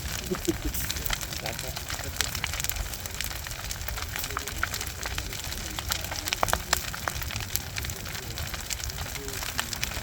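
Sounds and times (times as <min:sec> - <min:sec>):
bonfire crackling and popping: 0:00.0 - 0:10.0
fire low rumble: 0:00.0 - 0:10.0.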